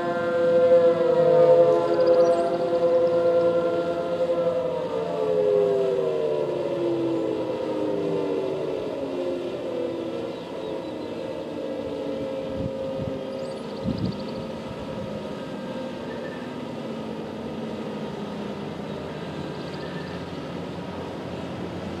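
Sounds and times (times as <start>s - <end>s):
distant warning sirens winding down: 0.0s - 22.0s
steady background hum: 0.0s - 22.0s.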